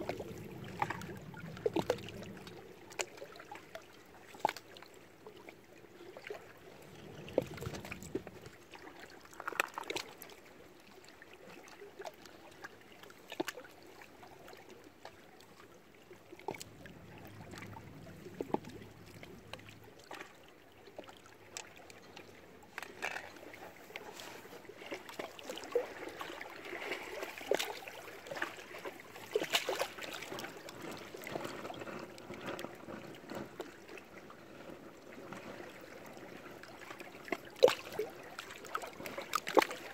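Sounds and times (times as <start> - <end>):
waves lapping against rocks: 0.0 - 39.9.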